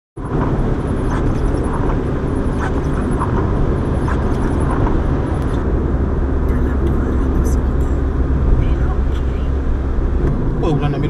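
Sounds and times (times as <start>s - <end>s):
car engine and tyres on wet road: 0.2s - 11.0s.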